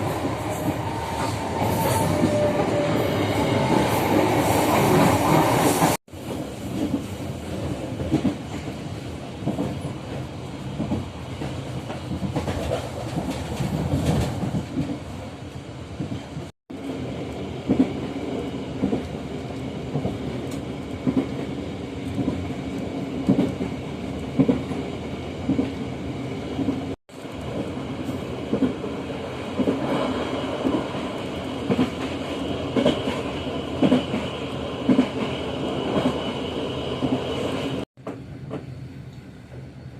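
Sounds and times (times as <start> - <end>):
train wheels clacking on rails: 0.0 - 15.2, 19.8 - 25.9, 26.5 - 38.8
train rumble: 0.0 - 39.9.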